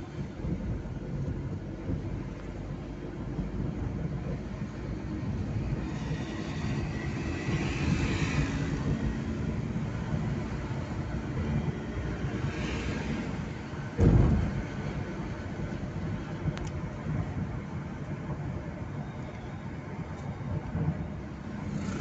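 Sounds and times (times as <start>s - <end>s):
car cabin road and engine noise: 0.0s - 22.0s.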